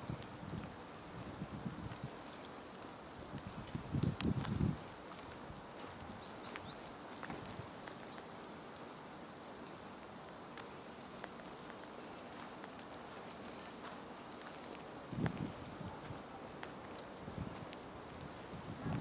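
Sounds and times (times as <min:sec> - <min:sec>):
faint ticks: 0:00.0 - 0:19.0
steady outdoor hiss: 0:00.0 - 0:19.0.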